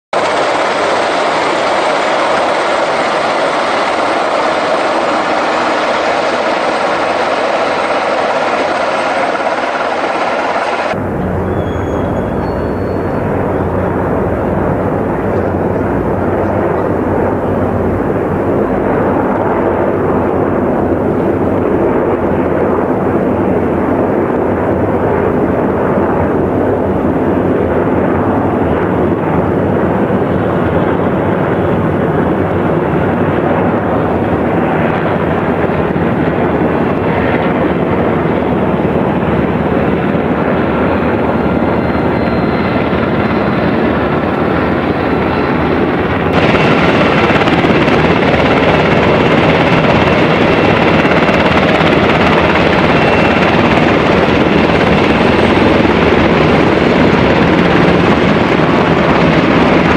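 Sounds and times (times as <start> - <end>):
helicopter rotor and turbine drone: 0.2 - 59.9.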